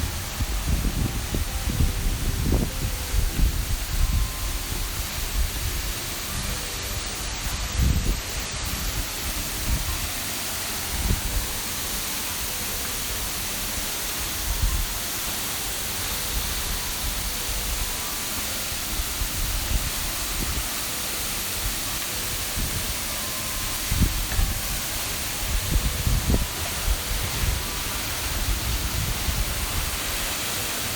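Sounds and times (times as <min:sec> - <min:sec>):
water rushing: 0:00.0 - 0:30.9.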